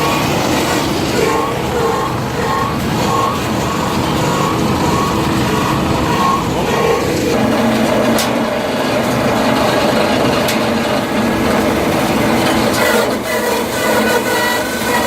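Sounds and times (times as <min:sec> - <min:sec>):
wood crusher running: 0:00.0 - 0:15.0.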